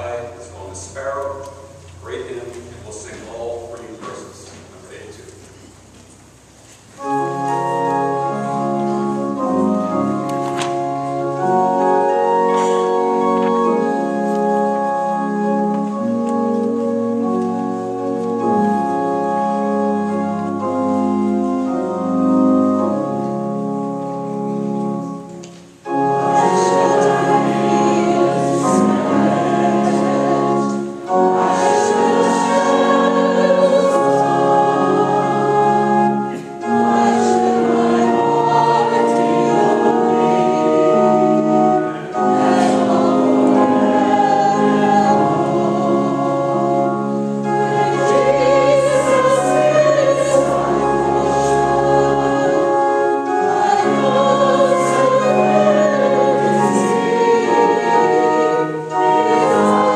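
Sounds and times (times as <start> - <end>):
congregation singing a hymn: 0.0 - 5.2, 7.0 - 59.9
organ playing chords: 0.0 - 59.9.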